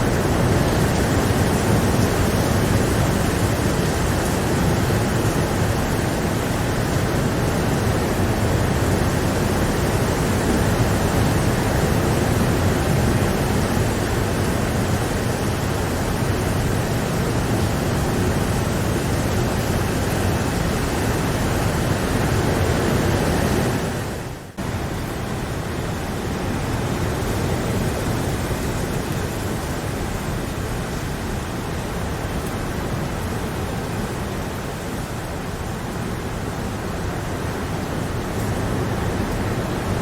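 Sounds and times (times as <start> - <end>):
dense rain: 0.0 - 40.0.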